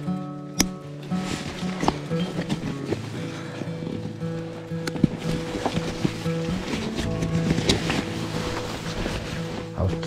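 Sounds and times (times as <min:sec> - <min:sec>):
background music of held tones: 0:00.0 - 0:10.0
camping gear knocks and rattles: 0:00.6 - 0:10.0.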